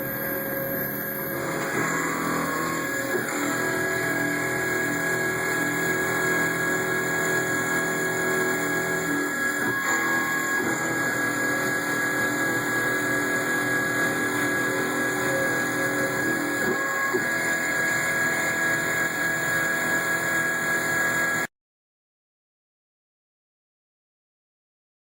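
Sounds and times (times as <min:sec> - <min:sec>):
cutting noise: 0:00.0 - 0:21.5
milling machine motor whine: 0:00.0 - 0:21.5.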